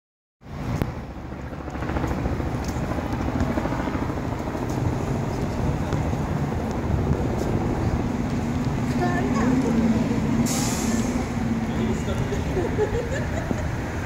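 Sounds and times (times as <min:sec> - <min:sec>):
street traffic rumble: 0:00.4 - 0:14.0.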